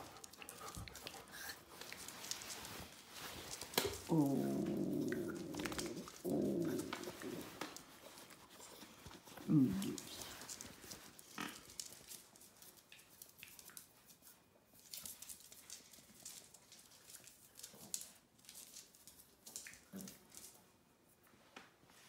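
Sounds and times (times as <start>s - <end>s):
puppies making small vocal noises: 0.0s - 20.6s
paws scuffling on a cork floor: 0.0s - 22.0s.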